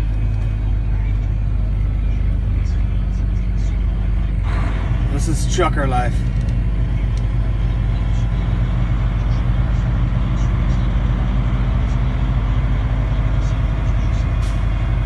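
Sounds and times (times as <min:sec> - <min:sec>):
diesel truck engine droning: 0:00.0 - 0:15.0.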